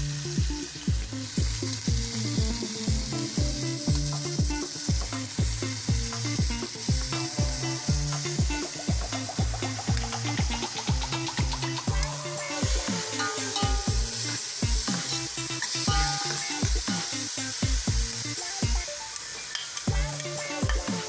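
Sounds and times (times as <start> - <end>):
music with drum beat and bass: 0.0 - 21.0
vegetables sizzling in pan: 0.0 - 21.0.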